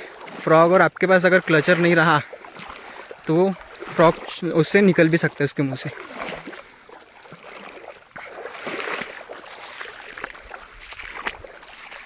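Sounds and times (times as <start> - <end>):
water sloshing around wading person: 0.0 - 12.0.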